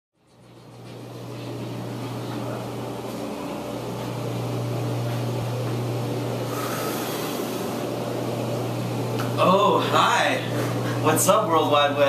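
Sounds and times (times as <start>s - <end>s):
fan or motor hum and hiss: 0.2s - 12.0s.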